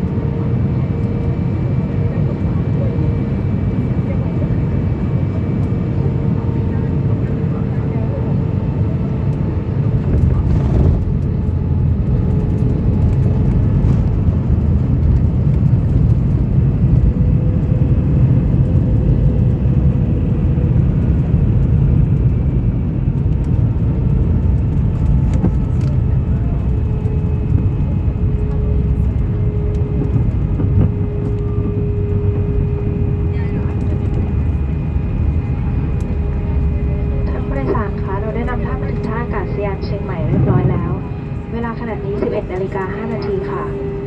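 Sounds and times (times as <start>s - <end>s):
jet engines and rushing air rumble: 0.0s - 44.0s.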